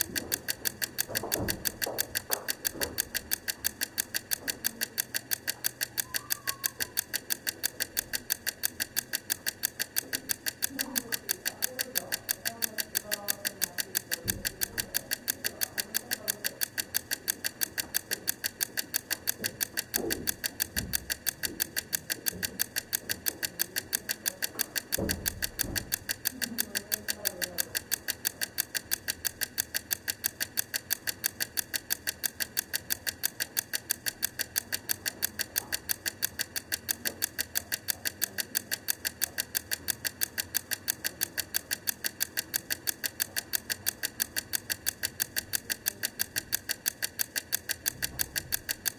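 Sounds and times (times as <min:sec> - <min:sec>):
egg timer ticking: 0:00.0 - 0:48.9.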